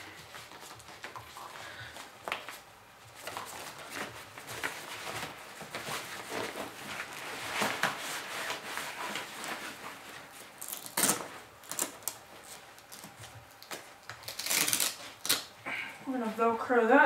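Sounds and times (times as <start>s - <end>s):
fabric rustling and shuffling: 0.0s - 17.0s.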